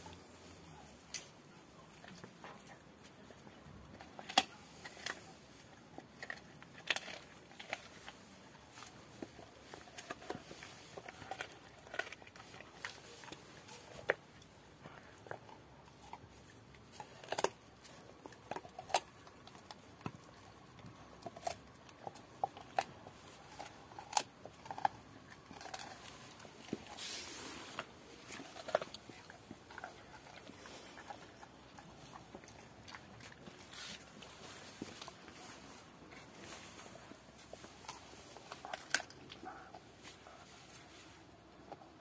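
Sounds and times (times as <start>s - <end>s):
dog gnawing a bone: 0.0s - 42.0s.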